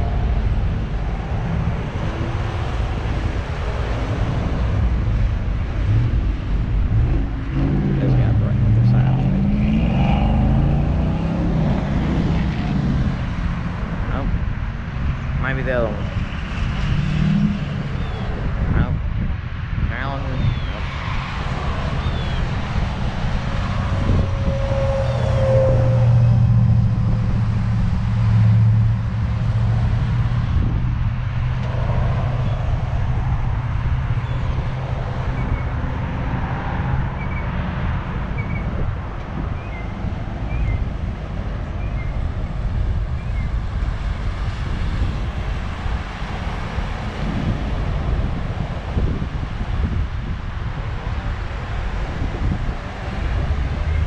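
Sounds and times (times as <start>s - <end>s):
road traffic engines: 0.0s - 54.0s
wind buffeting microphone: 0.0s - 54.0s.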